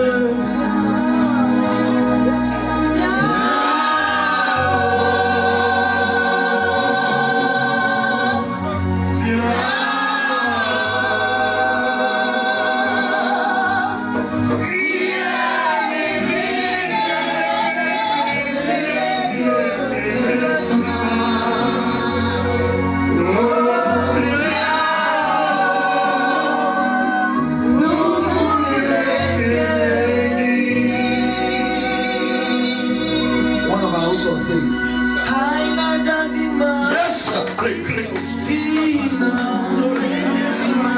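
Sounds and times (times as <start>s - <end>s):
choir singing gospel: 0.0s - 40.9s.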